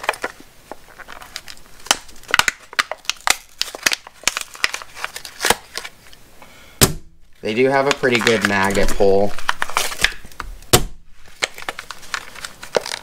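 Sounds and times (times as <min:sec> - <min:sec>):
plastic packaging crinkling: 0:00.0 - 0:06.2, 0:07.3 - 0:13.0.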